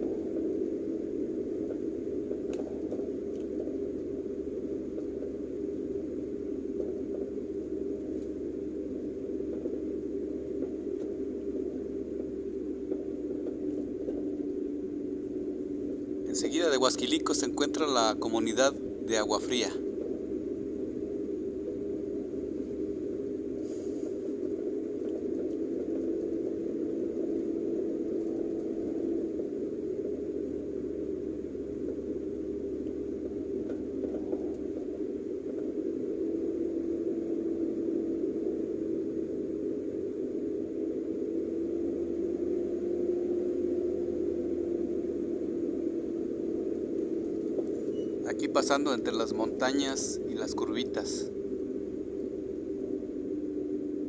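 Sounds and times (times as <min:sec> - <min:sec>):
car engine and tyres droning: 0:00.0 - 0:54.0.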